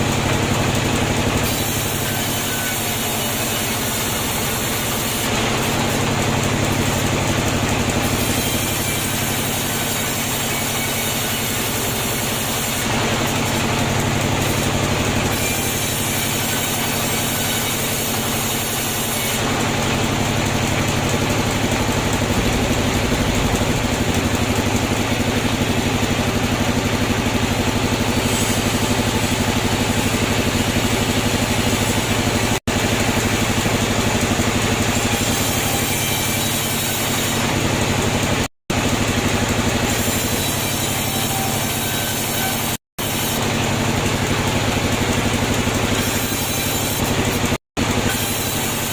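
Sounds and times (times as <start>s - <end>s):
sawmill machinery humming: 0.0s - 48.9s.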